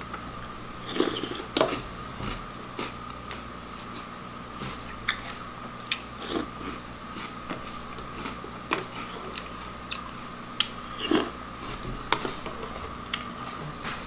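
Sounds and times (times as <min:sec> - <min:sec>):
crunchy cereal being chewed: 0:00.2 - 0:13.4.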